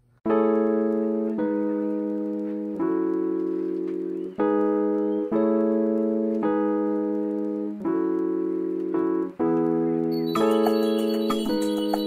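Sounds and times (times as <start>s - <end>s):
sustained keyboard chords: 0.2s - 12.0s.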